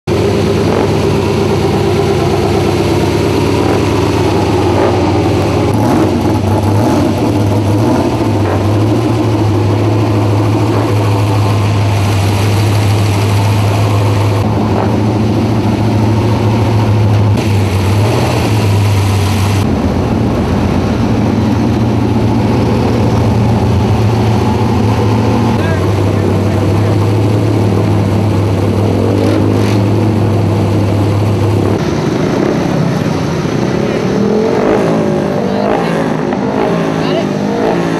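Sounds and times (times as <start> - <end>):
race car engine running: 0.0 - 37.9.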